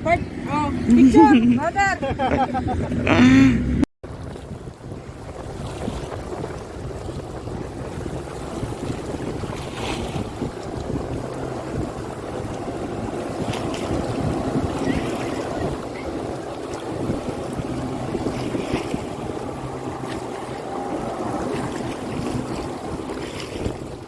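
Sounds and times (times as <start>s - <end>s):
wind buffeting microphone: 0.0s - 24.0s
sea water washing: 4.0s - 24.0s.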